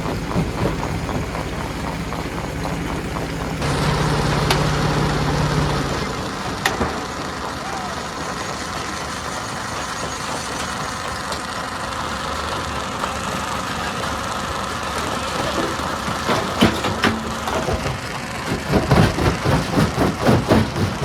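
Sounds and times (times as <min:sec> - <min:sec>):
stone crusher mechanical drone: 0:00.0 - 0:21.0.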